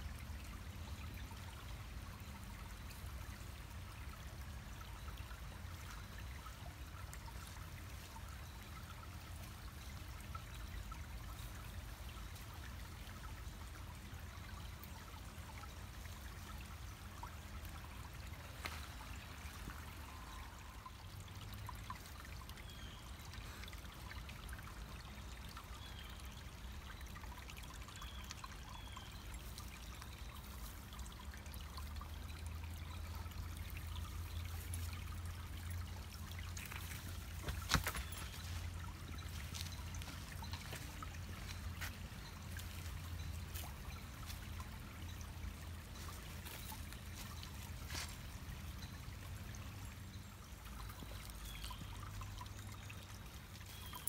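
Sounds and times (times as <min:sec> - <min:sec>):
creek babbling over stones: 0:00.0 - 0:54.0.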